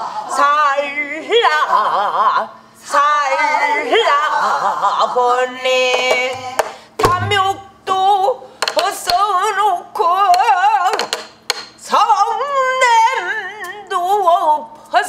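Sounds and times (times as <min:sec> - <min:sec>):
woman singing with vibrato: 0:00.0 - 0:11.1, 0:11.8 - 0:15.0.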